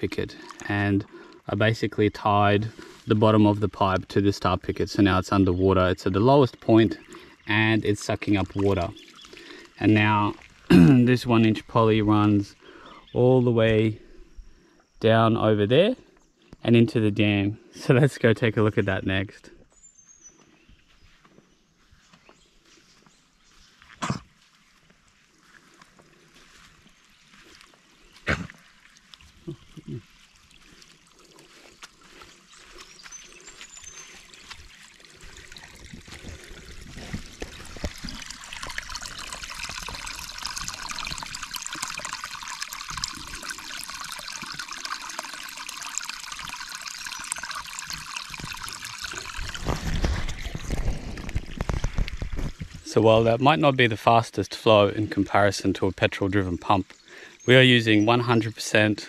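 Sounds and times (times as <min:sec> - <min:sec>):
water trickling into shallow water: 0:00.0 - 0:59.0.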